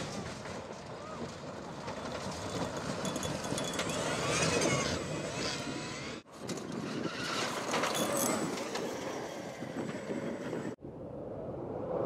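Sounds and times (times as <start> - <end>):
tyres churning dirt and gravel: 0.0 - 10.8.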